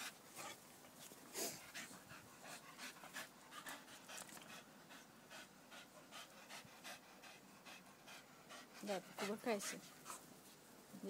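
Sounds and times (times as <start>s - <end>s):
dog panting: 1.4s - 10.3s.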